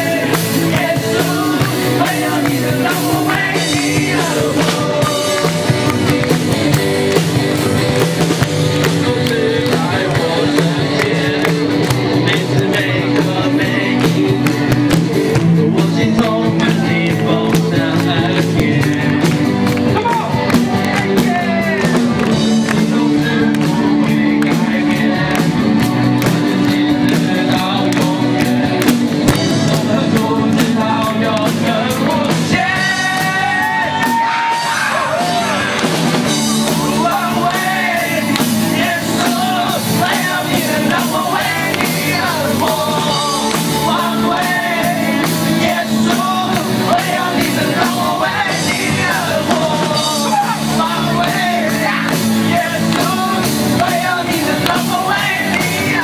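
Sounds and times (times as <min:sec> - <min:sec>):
live rock band playing: 0:00.0 - 0:56.0
men singing into microphones: 0:00.0 - 0:56.0.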